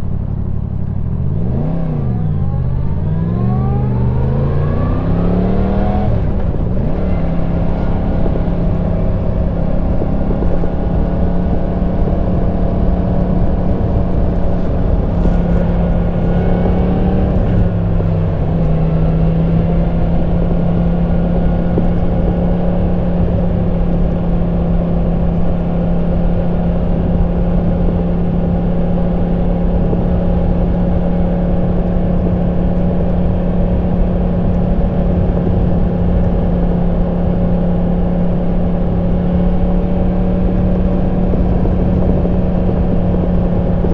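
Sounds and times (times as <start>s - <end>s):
motorcycle engine cruising: 0.0s - 43.9s
road rumble: 0.0s - 43.9s
wind: 0.0s - 43.9s.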